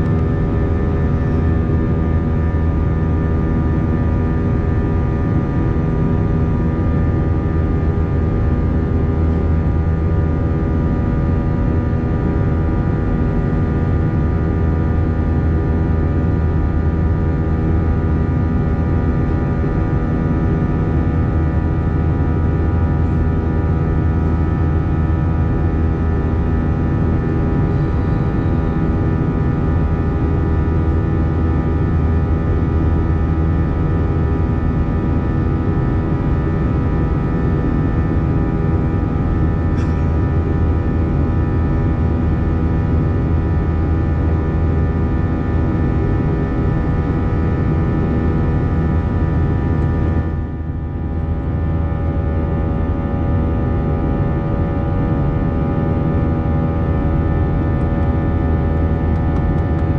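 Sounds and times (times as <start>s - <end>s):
jet engine drone in cabin: 0.0s - 59.9s.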